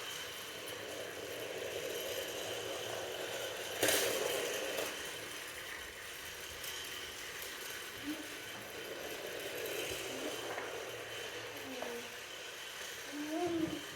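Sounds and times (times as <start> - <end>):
toy train motor whir: 0.0 - 13.9.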